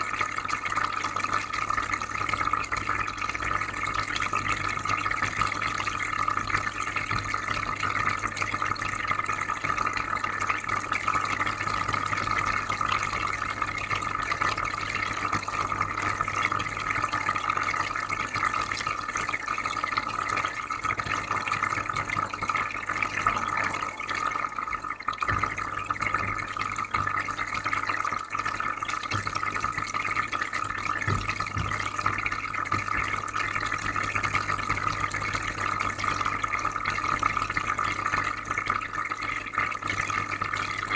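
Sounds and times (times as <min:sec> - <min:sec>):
water trickling and bubbling: 0:00.0 - 0:40.9.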